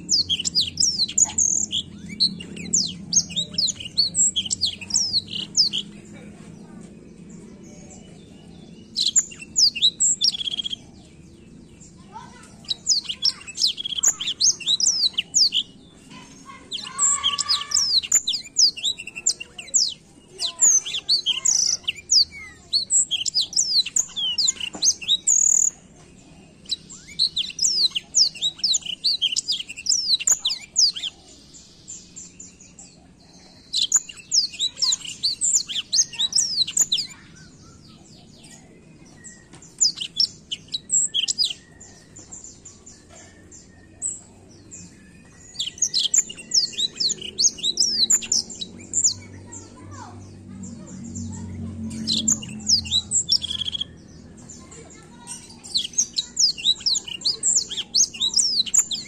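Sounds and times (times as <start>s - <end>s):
canary singing rapid twittering song: 0.0s - 59.0s.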